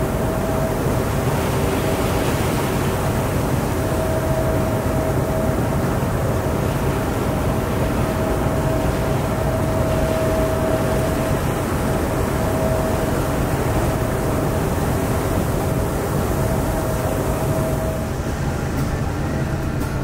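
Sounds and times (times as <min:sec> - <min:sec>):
water rushing: 0:00.0 - 0:18.2
thin whine: 0:00.0 - 0:18.3
boat engine rumble: 0:00.0 - 0:20.0
wind: 0:00.0 - 0:20.0.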